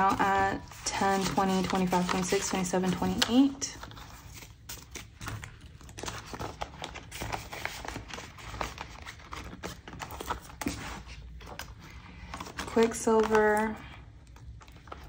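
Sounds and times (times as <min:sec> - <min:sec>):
paper and plastic rustling: 0:00.0 - 0:15.0.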